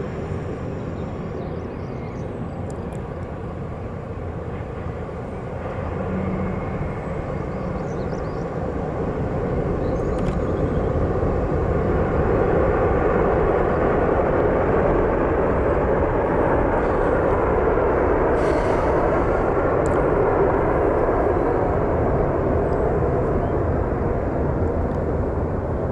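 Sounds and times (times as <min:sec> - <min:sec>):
jet aircraft on approach: 0:00.0 - 0:25.9.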